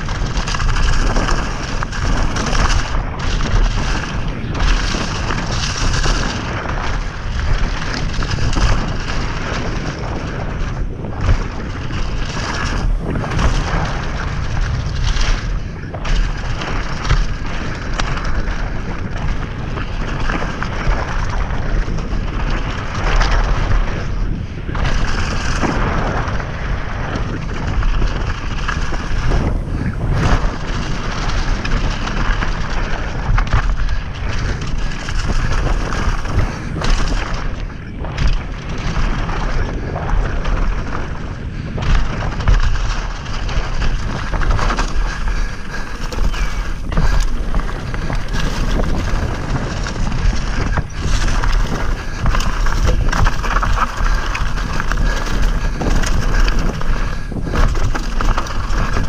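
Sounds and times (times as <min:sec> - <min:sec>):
tyres crunching on loose dirt: 0:00.0 - 0:59.0
wind buffeting microphone: 0:00.0 - 0:59.0.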